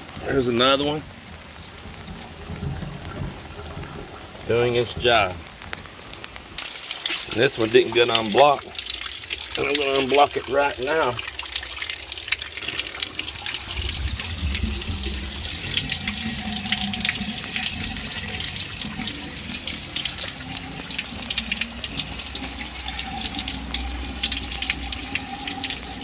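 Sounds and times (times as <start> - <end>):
rain: 0.0 - 26.0
stream splashing on concrete: 0.0 - 26.0
water gushing down a drain: 0.0 - 26.0.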